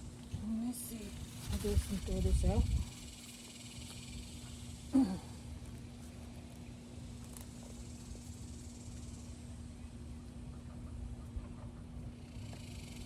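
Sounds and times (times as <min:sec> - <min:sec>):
low even hum: 0:00.0 - 0:13.0.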